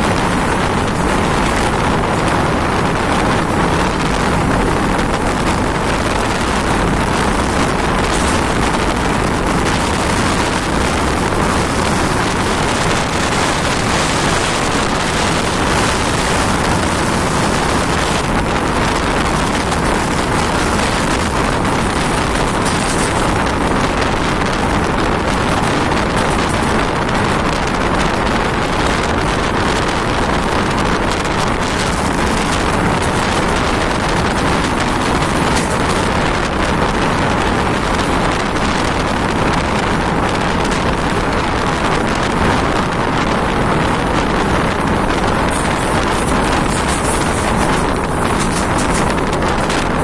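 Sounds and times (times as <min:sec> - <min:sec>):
train wheel and track noise: 0:00.0 - 0:50.0
wind buffeting microphone: 0:00.0 - 0:50.0.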